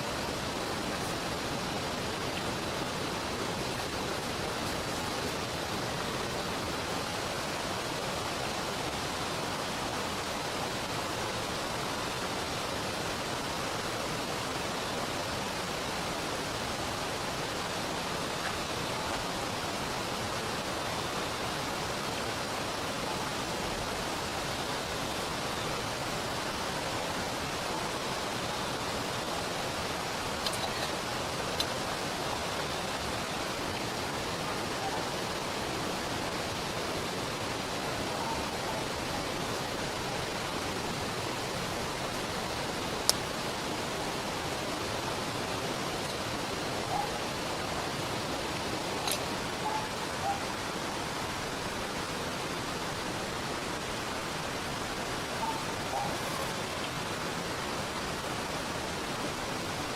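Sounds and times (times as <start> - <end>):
heavy rain: 0.0 - 59.9
river water rushing: 0.0 - 59.9.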